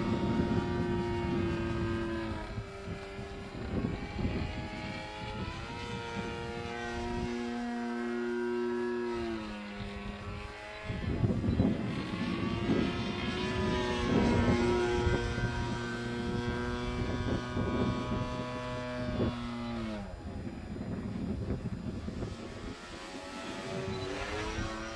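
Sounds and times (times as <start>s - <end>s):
propeller plane engine droning: 0.0s - 24.9s
wind buffeting microphone: 0.0s - 24.9s.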